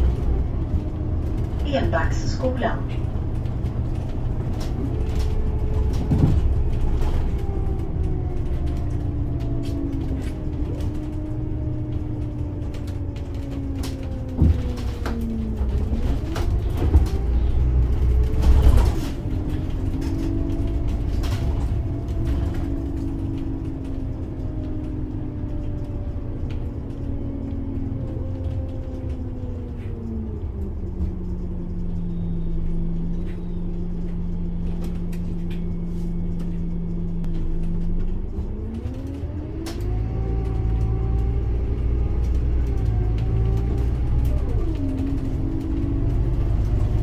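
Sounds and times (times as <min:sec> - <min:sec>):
bus engine: 0:00.0 - 0:47.0.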